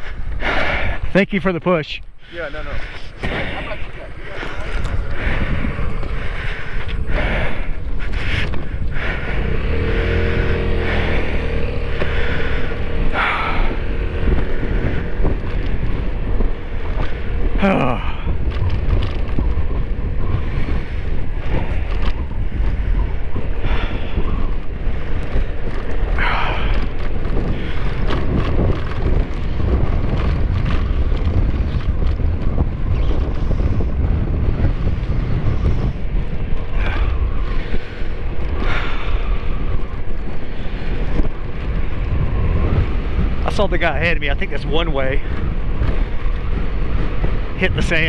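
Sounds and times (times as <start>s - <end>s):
wind rushing over microphone: 0.0s - 48.0s
scooter engine rumbling: 2.0s - 48.0s.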